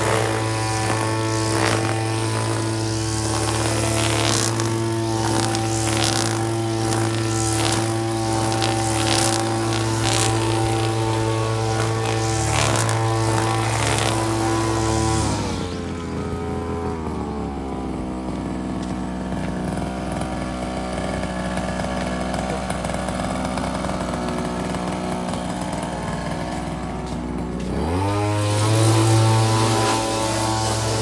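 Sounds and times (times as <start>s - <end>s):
low buzzing music drone: 0.0s - 31.0s.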